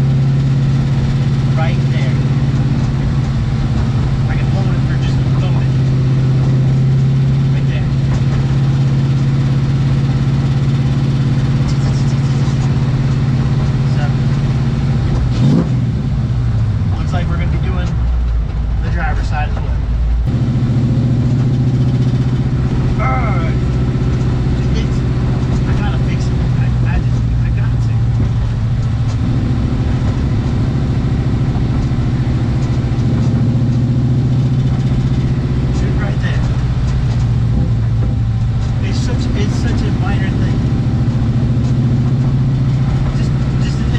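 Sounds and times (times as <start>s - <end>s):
car engine droning at cruise: 0.0s - 43.9s.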